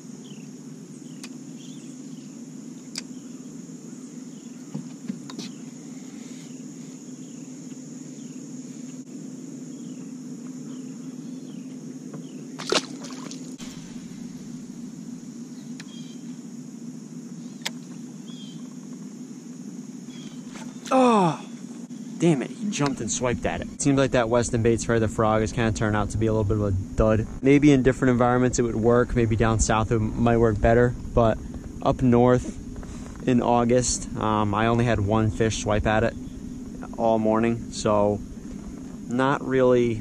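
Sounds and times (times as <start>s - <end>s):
high insect buzz: 0.0s - 40.0s
low steady hum: 0.0s - 40.0s.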